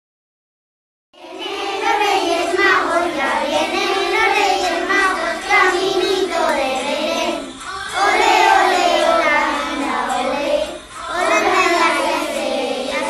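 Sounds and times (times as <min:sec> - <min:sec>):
children singing: 0:01.2 - 0:13.0.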